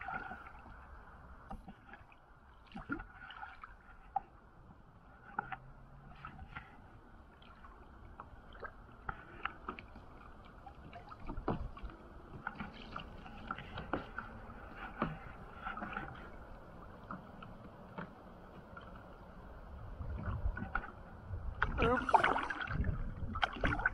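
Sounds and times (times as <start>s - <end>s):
small ticks and splashes: 0.0s - 23.9s
water lapping against kayak hull: 0.0s - 23.9s.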